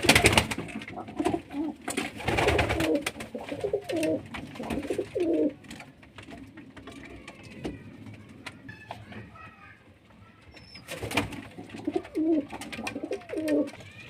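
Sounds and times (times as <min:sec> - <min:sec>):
pigeons cooing: 0:00.0 - 0:08.6, 0:10.5 - 0:14.0
rustling: 0:00.0 - 0:14.0.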